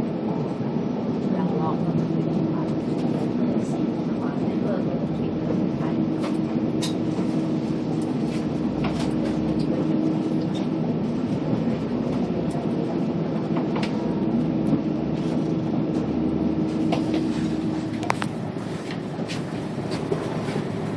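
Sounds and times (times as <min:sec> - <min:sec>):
bus diesel engine hum: 0:00.0 - 0:20.9.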